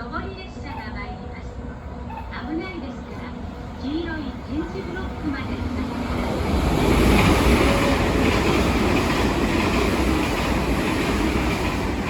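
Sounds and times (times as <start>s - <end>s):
train wheels rushing: 2.0s - 12.0s.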